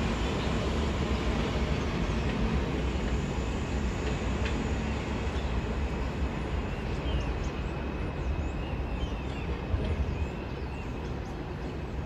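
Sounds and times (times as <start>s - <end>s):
distant train rumble: 0.0s - 12.0s.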